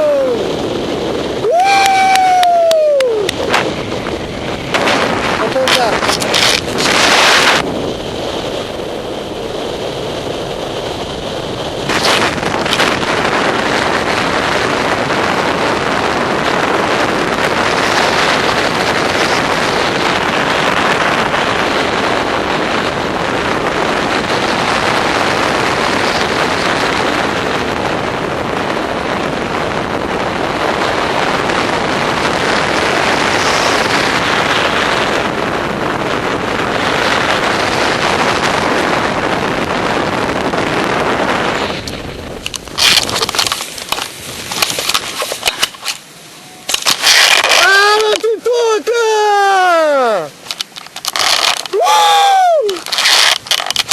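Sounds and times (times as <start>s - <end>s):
wind roaring over microphone: 0.0s - 53.9s.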